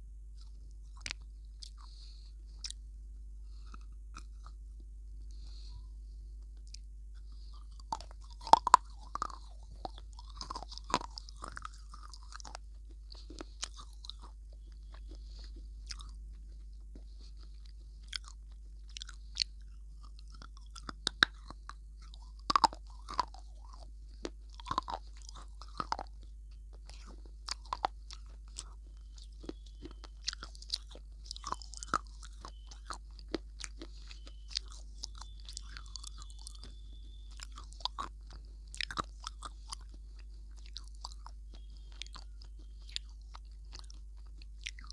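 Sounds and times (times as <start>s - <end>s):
crunchy snack chewing: 0.4s - 2.8s, 3.4s - 44.9s
mouth clicks: 6.5s - 44.9s.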